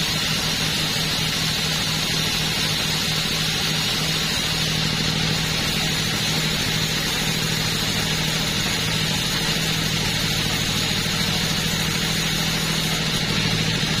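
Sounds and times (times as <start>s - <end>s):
two-stroke chainsaw engine running: 0.0s - 14.0s.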